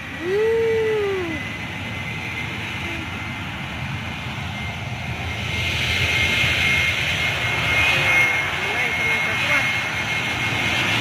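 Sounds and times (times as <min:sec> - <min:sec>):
distant jet engines at takeoff: 0:00.0 - 0:11.0.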